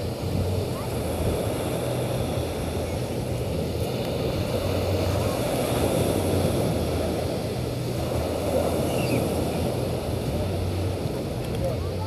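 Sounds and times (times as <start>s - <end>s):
small surf washing: 0.0s - 12.0s
wind noise on microphone: 0.0s - 12.0s.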